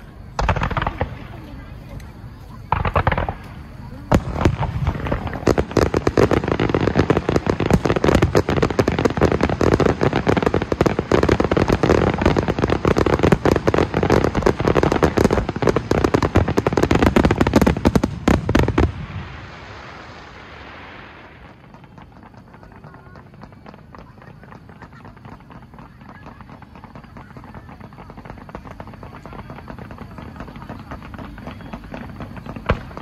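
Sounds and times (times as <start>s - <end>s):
fireworks barrage: 0.0s - 33.0s
fireworks crackle: 0.0s - 33.0s.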